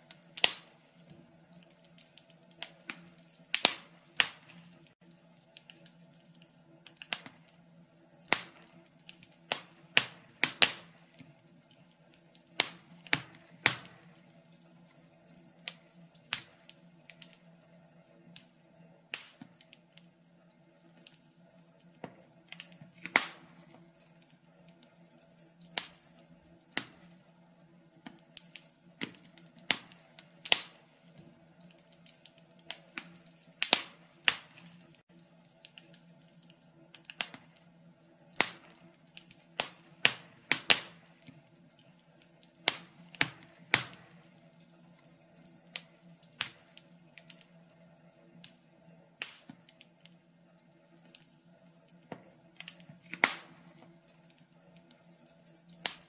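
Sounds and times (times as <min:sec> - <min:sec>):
faint steady hum: 0:00.0 - 0:56.0
logs crackling in fireplace: 0:00.0 - 0:56.0.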